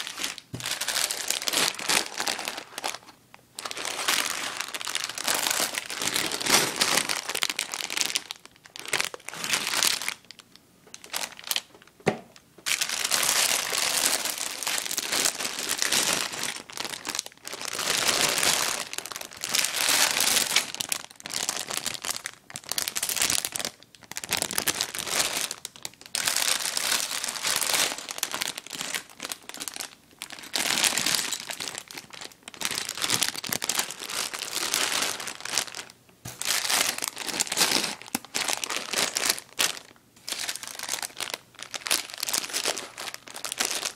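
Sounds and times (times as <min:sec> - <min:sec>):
plastic bags crinkling: 0:00.0 - 0:43.9.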